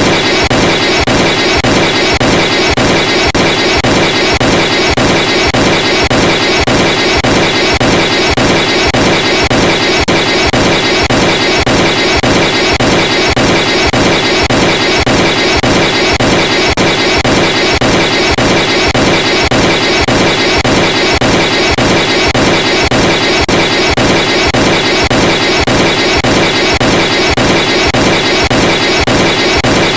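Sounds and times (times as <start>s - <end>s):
pulsing emergency alert alarm: 0.0s - 29.9s.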